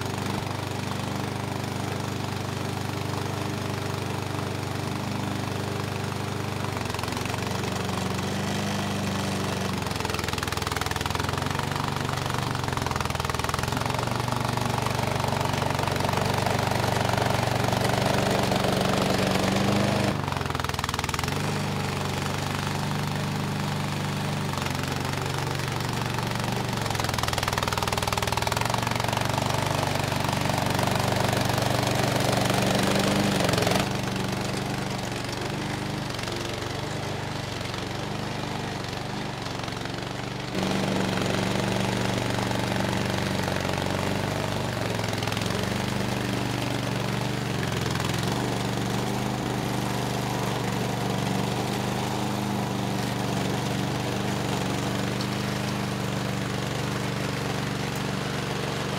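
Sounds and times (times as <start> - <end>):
small mower engine running: 0.0 - 58.9.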